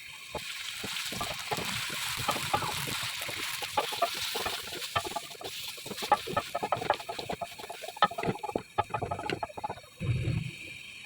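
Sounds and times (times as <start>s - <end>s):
food cooking hiss with pops: 0.0s - 11.0s.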